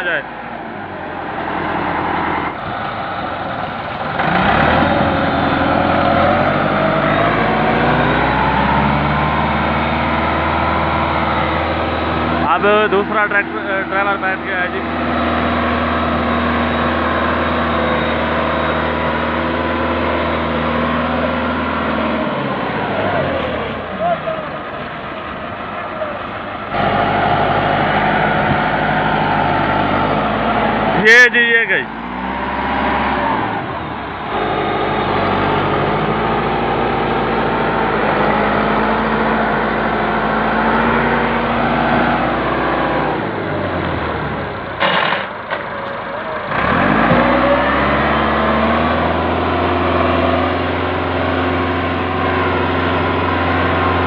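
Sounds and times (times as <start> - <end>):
tractor diesel engine revving: 0.0 - 54.0.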